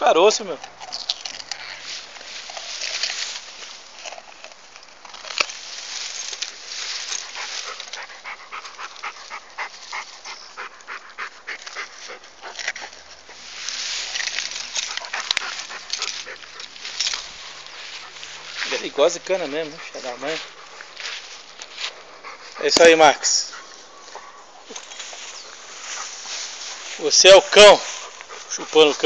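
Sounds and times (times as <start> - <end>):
dog crunching sugarcane: 0.1 - 29.0.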